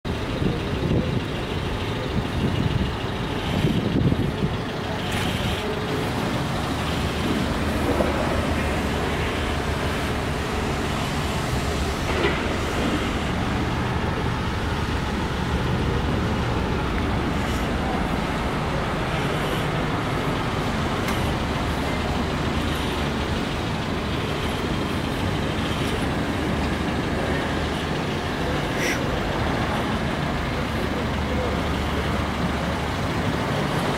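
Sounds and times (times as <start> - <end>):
vehicle engine rumbling: 0.0 - 33.9.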